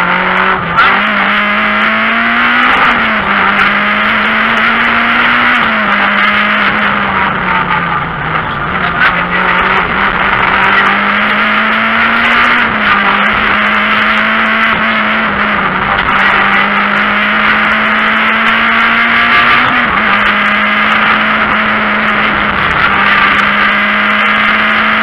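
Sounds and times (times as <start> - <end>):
car engine at speed: 0.0 - 25.0
tyre and road noise: 0.0 - 25.0.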